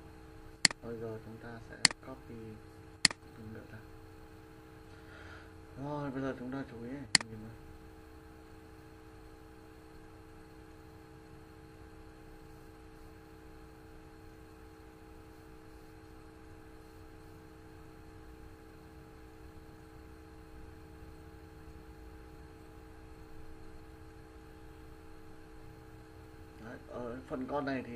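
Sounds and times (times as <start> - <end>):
faint electrical hum: 0.0 - 27.9.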